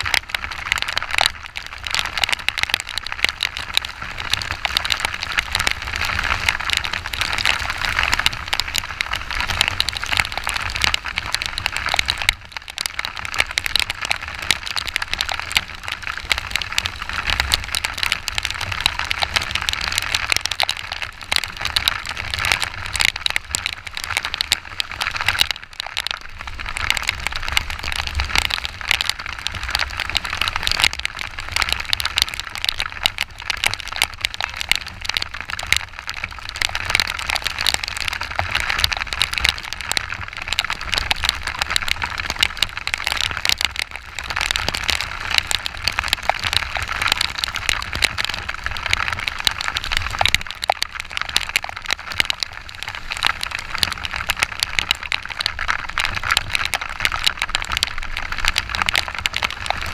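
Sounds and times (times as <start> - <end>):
heavy rain pattering on microphone: 0.0 - 59.9.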